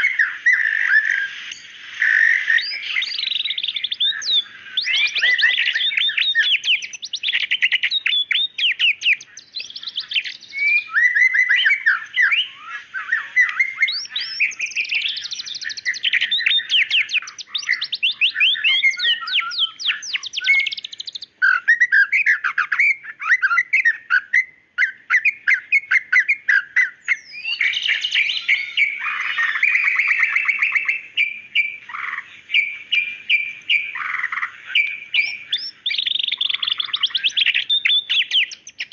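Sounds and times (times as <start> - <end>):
bird singing whistled trills: 0.0 - 38.9.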